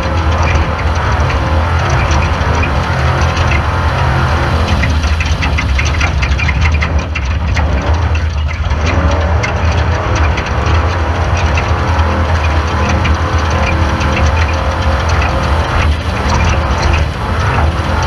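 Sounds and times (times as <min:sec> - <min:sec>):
race car engine running: 0:00.0 - 0:18.0
rattling and clatter: 0:00.0 - 0:18.0.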